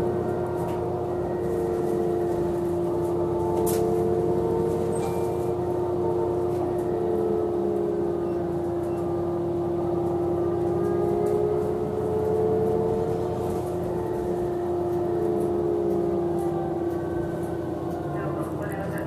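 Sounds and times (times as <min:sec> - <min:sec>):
bus diesel engine drone: 0:00.0 - 0:19.0
hybrid drive whine: 0:00.0 - 0:19.0.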